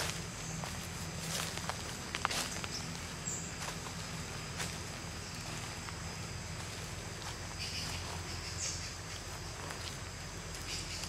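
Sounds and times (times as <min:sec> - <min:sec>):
footsteps on dry leaves: 0:00.0 - 0:11.0
steady low hum: 0:00.0 - 0:11.0.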